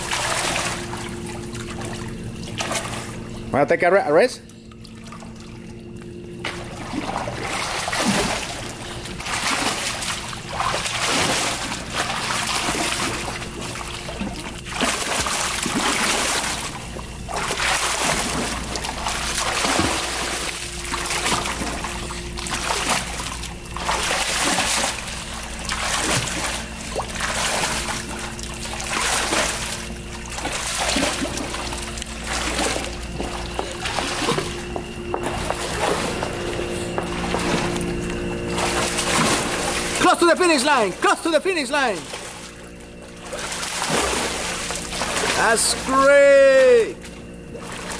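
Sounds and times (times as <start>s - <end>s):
child swimming splashes: 0.0s - 3.5s, 4.7s - 47.9s
steady low hum: 0.0s - 47.9s.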